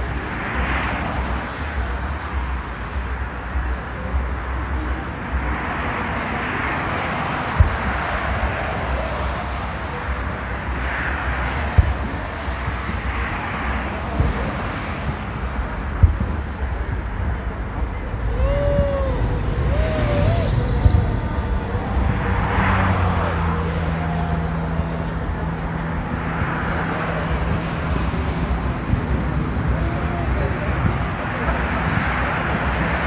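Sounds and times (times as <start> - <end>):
cars passing: 0.0 - 33.0
traffic rumble: 0.0 - 33.0
voices: 0.0 - 33.0.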